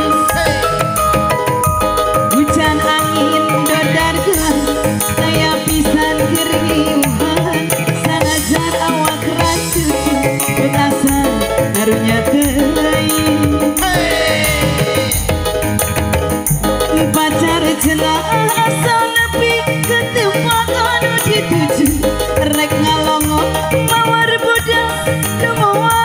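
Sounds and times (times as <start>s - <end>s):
hand drums playing fast beat: 0.0s - 26.0s
sustained melody line: 0.0s - 26.0s.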